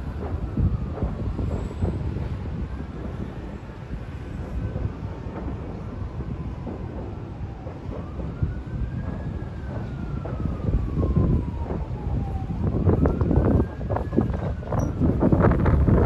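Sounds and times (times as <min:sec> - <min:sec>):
city noise: 0:00.0 - 0:16.0
distant siren wailing: 0:00.0 - 0:16.0
wind: 0:00.0 - 0:16.0.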